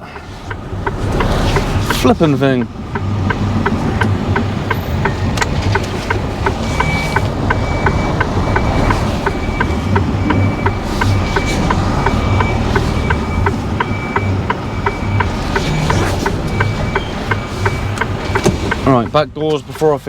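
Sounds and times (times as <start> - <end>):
reversing alarm beeping: 0.0 - 19.2
diesel engine low hum: 0.0 - 19.4.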